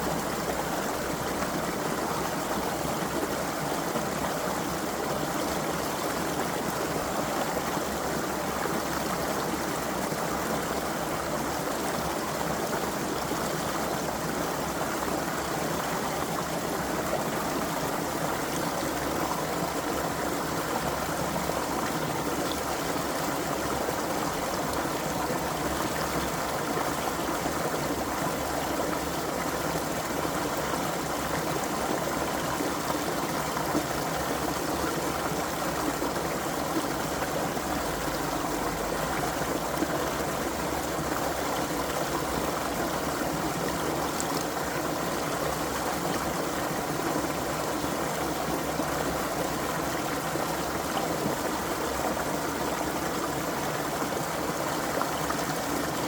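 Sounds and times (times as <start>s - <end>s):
creek babbling over stones: 0.0s - 56.0s.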